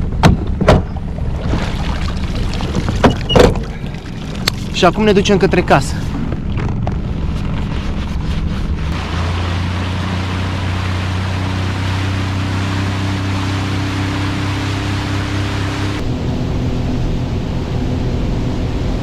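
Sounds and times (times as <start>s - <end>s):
water and wind rushing: 0.0s - 19.0s
outboard motor droning: 0.9s - 19.0s.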